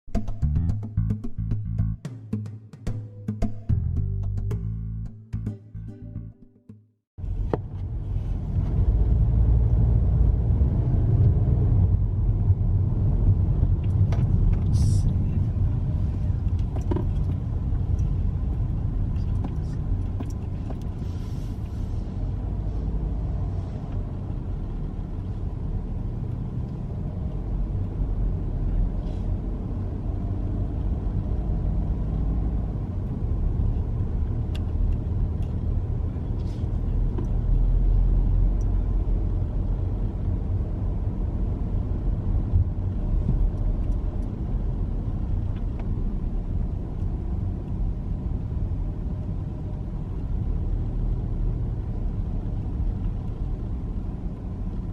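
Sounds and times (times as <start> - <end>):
car road and engine rumble: 7.1 - 54.9.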